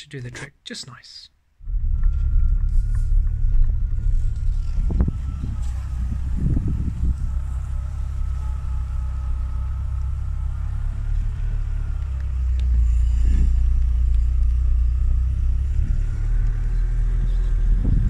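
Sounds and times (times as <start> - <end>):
car engine rumbling: 1.5 - 18.0.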